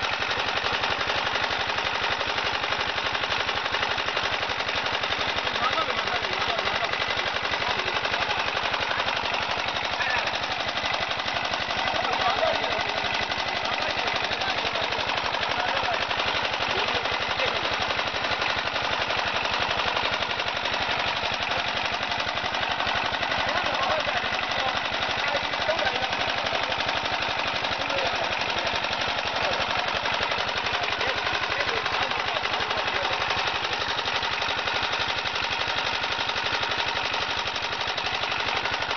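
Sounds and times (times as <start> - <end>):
machine rattling: 0.0 - 38.9.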